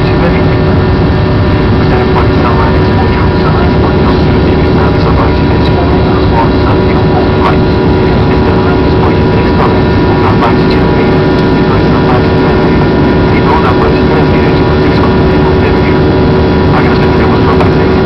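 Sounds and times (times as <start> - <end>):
jet engine noise inside cabin: 0.0 - 18.0.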